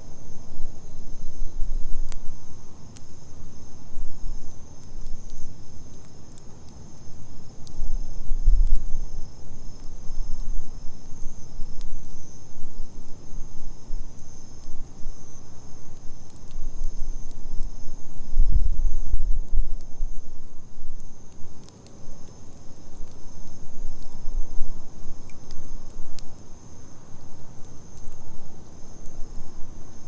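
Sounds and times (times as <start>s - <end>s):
campfire crackling: 0.0s - 30.0s
insects trilling: 0.0s - 30.0s.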